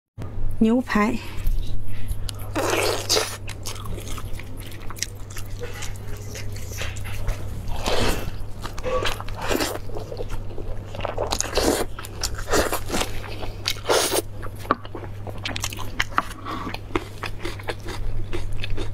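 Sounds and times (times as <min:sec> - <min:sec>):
steady low hum: 0:00.2 - 0:18.9
person chewing meat on the bone: 0:01.4 - 0:18.9.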